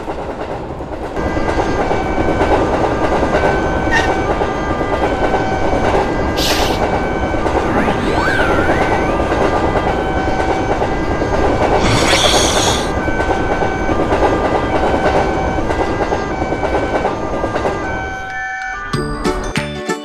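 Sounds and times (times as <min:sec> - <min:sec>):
train rumble: 0:00.0 - 0:19.5.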